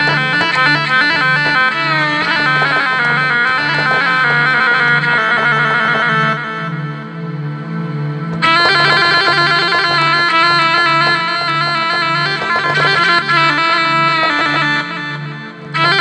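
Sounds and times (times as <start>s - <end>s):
bowed keyboard melody: 0.0s - 16.0s.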